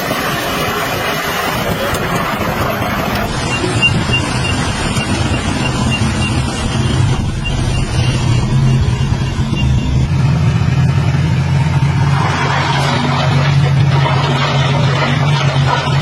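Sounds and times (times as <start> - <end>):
heavy diesel engine droning: 0.0 - 16.0
rushing noise: 0.0 - 16.0.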